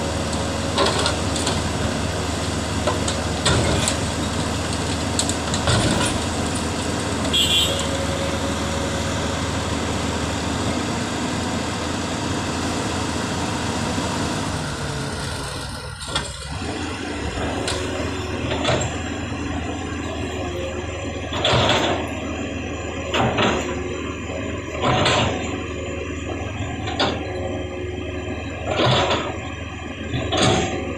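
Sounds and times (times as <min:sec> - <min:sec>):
heavy machinery engine running: 0:00.0 - 0:30.9.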